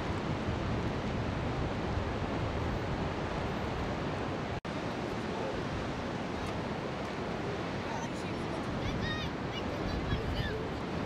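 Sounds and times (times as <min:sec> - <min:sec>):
ocean surf breaking on rocks: 0:00.0 - 0:11.0
wind: 0:00.0 - 0:11.0.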